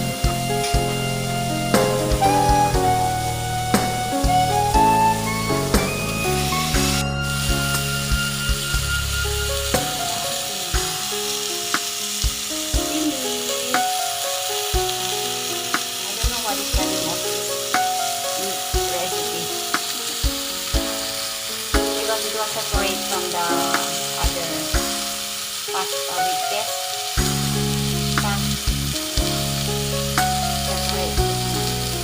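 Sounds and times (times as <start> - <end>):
background music with beat: 0.0 - 22.0, 23.7 - 25.4, 27.1 - 32.0
food sizzling in a pot: 0.0 - 32.0.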